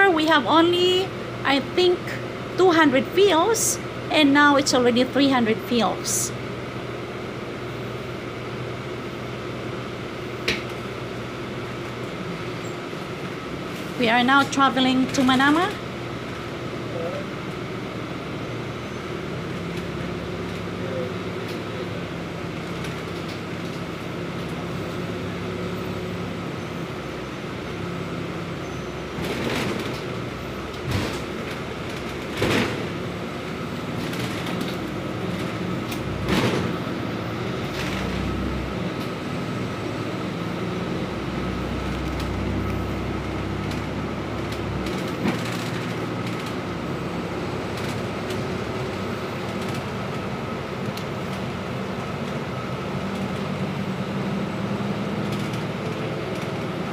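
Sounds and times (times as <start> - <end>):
bus engine and road hum: 0.0 - 56.9.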